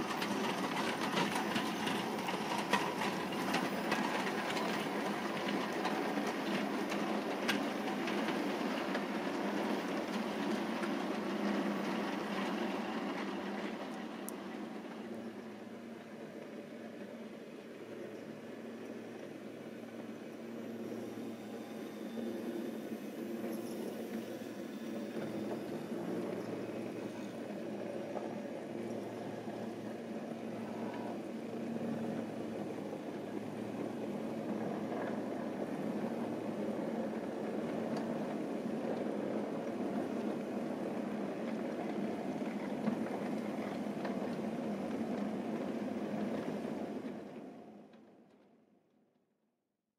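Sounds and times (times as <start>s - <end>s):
model train wheels rumbling on rail: 0.0s - 48.5s.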